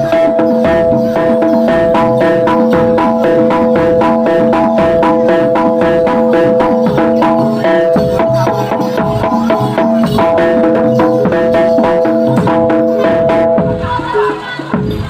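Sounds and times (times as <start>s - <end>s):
gamelan percussion music: 0.0s - 15.0s.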